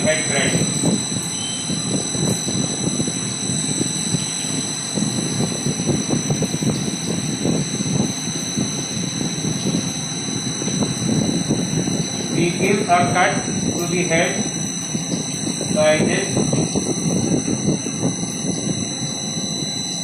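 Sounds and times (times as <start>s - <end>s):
grinding machine whirring: 0.0s - 20.0s
high-pitched whine: 0.0s - 20.0s.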